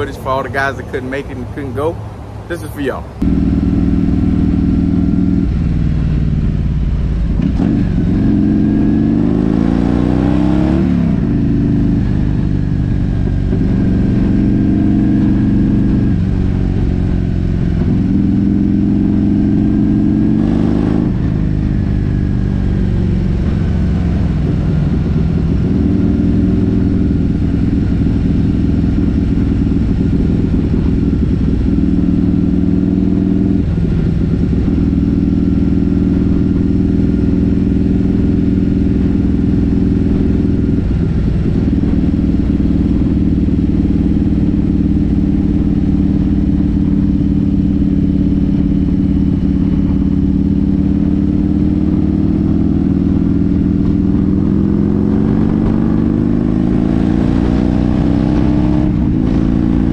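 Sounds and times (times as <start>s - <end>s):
motorcycle engine running: 3.2s - 59.9s.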